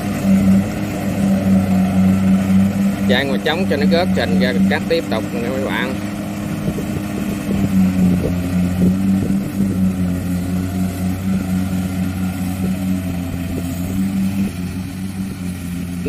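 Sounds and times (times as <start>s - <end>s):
diesel engine throbbing under load: 0.0s - 16.0s.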